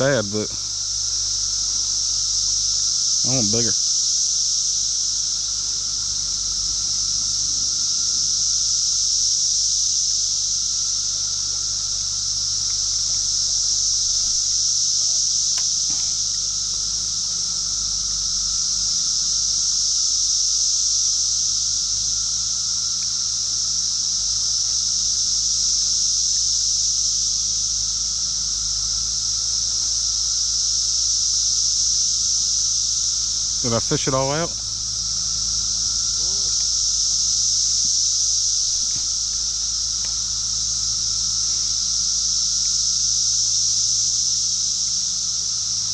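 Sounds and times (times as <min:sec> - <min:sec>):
insects chirping chorus: 0:00.0 - 0:45.9.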